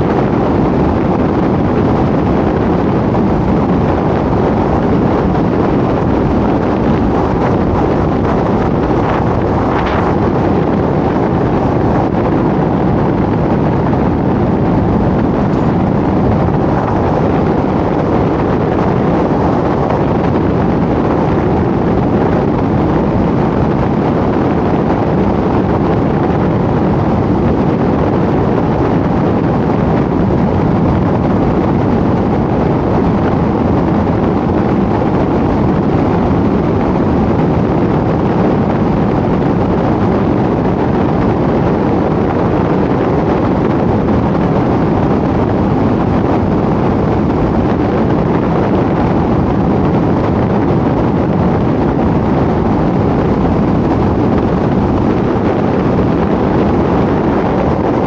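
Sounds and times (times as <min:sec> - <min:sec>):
car tyre and wind noise: 0:00.0 - 0:58.0.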